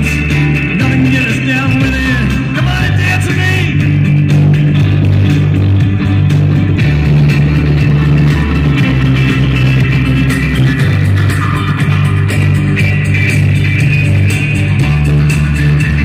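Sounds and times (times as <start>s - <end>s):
electric bass line: 0.0s - 16.0s
electric guitar: 0.0s - 16.0s.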